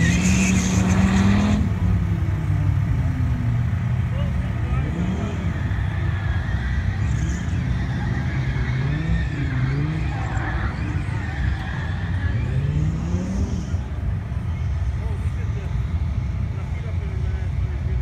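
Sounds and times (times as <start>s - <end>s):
car engines revving hard: 0.0s - 18.0s.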